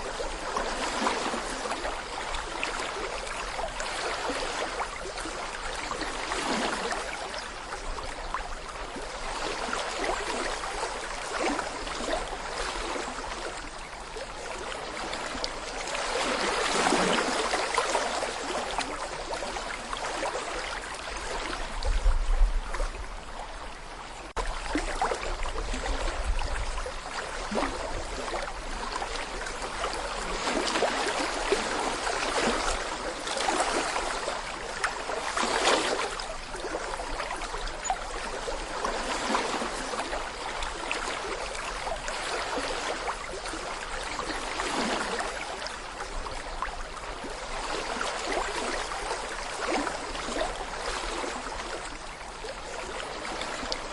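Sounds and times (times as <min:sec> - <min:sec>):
brook babbling over stones: 0:00.0 - 0:53.9.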